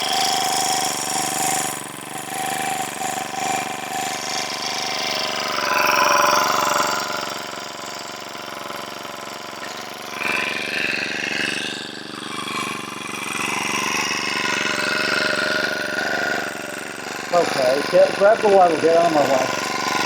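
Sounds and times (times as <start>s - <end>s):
engine idling with fast ticking: 0.0s - 20.0s.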